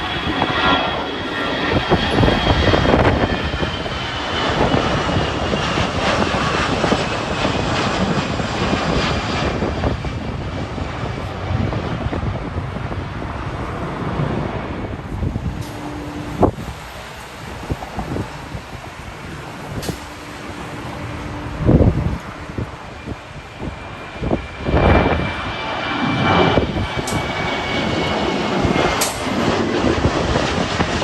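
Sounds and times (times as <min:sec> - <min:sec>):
jet airliner engine roar: 0:00.0 - 0:31.0
wind buffeting microphone: 0:00.0 - 0:31.0.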